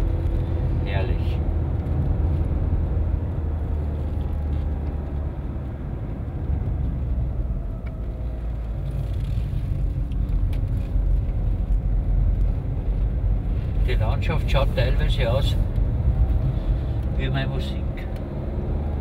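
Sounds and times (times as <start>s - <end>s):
car driving road rumble: 0.0s - 19.0s.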